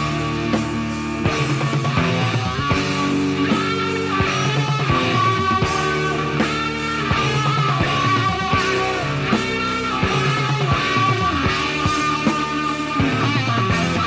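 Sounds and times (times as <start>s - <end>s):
guitar melody: 0.0s - 14.0s
rock band instrumental ballad: 0.0s - 14.0s.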